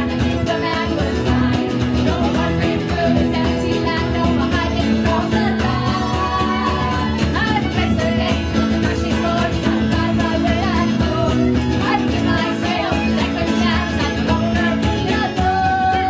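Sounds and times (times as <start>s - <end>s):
live band playing: 0.0s - 16.0s
voices singing together: 0.0s - 16.0s.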